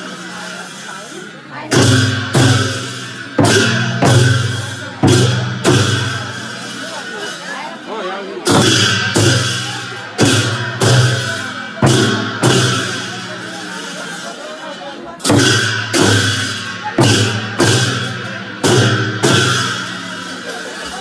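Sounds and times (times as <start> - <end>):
voices: 0.0 - 21.0
frame drums booming: 1.4 - 7.1, 8.4 - 13.7, 15.2 - 21.0.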